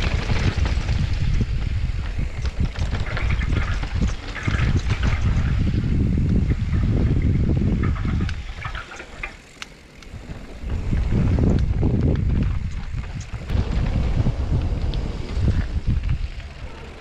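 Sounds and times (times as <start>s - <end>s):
bike clicks and rattles: 0.0s - 17.0s
tyres rolling over gravel: 0.0s - 17.0s
wind buffeting microphone: 0.0s - 17.0s.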